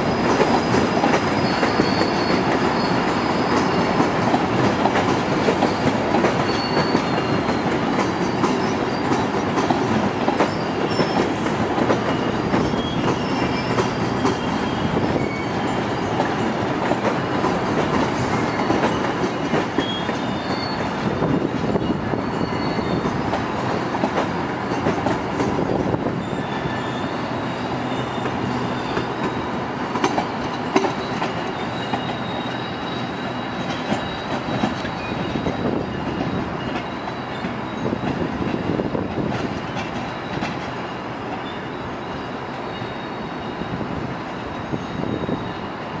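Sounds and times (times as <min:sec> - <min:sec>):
high wheel squeal: 0:00.0 - 0:04.5, 0:05.4 - 0:09.7, 0:10.3 - 0:23.5, 0:25.5 - 0:39.0, 0:40.0 - 0:46.0
train wheels rumbling on rails: 0:00.0 - 0:46.0.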